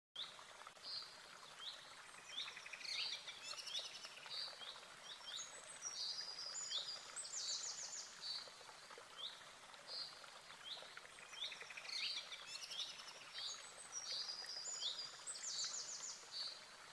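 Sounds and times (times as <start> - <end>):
faint steady hiss: 0.2 - 16.9
songbirds chirping: 0.2 - 16.9.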